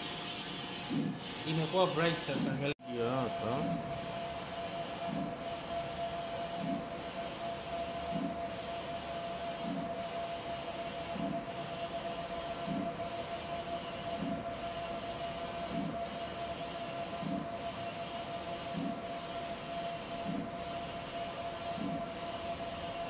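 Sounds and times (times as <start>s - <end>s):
printer whine: 0.0s - 23.0s.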